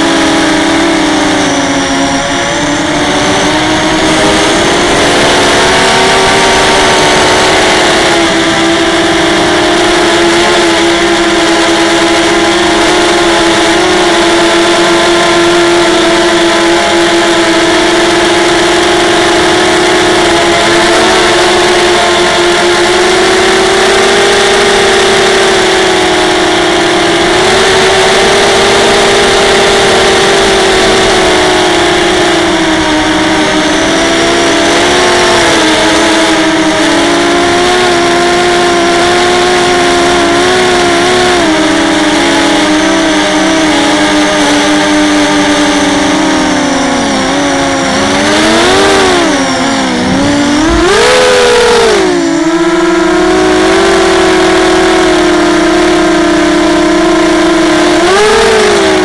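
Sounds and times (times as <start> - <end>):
quadcopter motors buzzing whine: 0.0 - 59.0.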